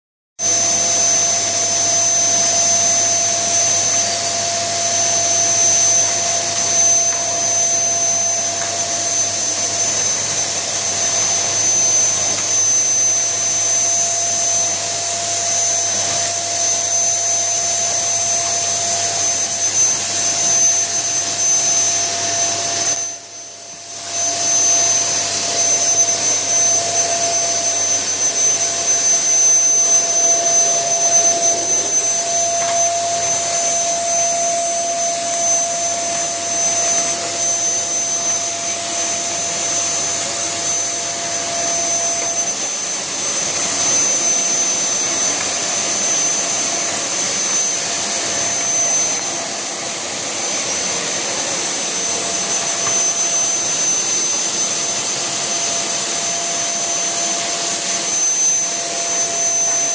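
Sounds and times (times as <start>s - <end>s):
high steady whine: 0.4s - 59.9s
vacuum cleaner running: 0.4s - 59.9s.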